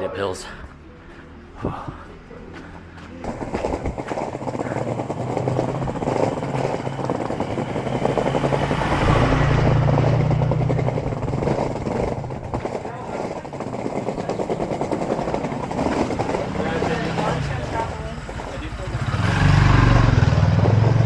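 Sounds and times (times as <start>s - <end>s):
skateboard wheels rolling on pavement: 2.5s - 21.0s.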